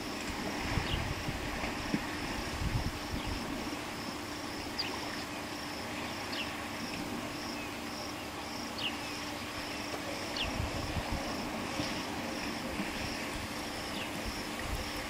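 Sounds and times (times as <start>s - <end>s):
insects chirping in pulses: 0.0s - 15.0s.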